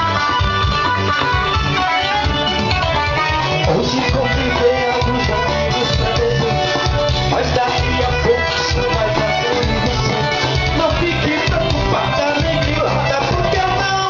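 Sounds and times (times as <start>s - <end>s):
band music: 0.0s - 14.0s
steady drum beat: 0.0s - 14.0s.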